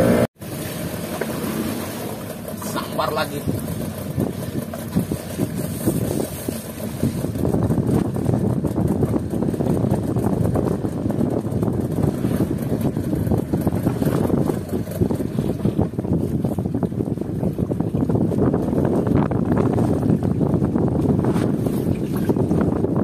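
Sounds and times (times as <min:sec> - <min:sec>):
boat motor running: 0:00.0 - 0:23.0
wind buffeting microphone: 0:02.4 - 0:23.0.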